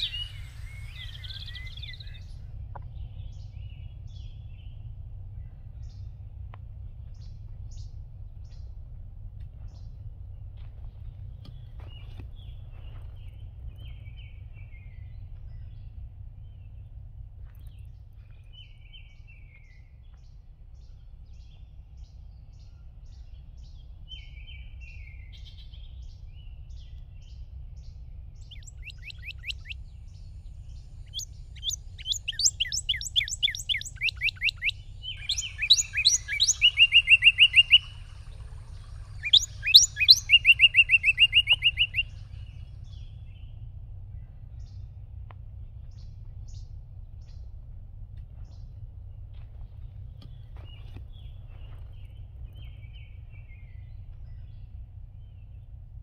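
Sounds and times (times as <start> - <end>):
songbirds singing: 0.0 - 56.0
steady low hum: 0.0 - 56.0.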